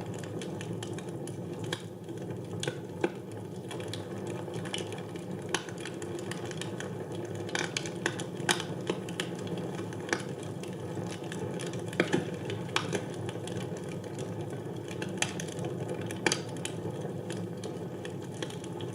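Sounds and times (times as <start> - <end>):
fire crackling and popping: 0.0 - 18.9.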